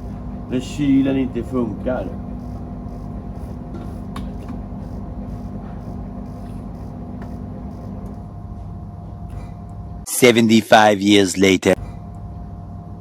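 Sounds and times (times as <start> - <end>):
low machine hum: 0.0 - 10.1, 10.8 - 13.0
faint steady whine: 0.0 - 13.0.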